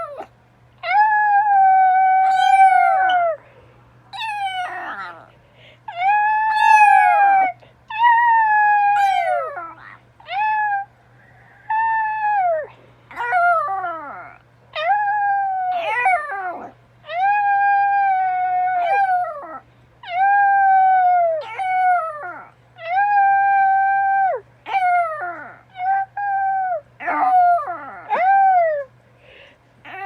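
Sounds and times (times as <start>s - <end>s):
dog howling: 0.0s - 3.4s, 4.2s - 5.3s, 5.9s - 28.9s.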